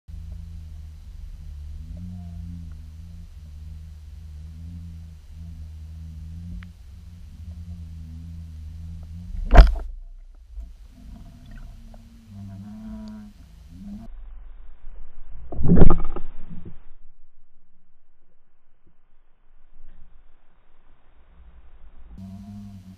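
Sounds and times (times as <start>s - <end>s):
low wavering underwater hum: 0.1s - 22.9s.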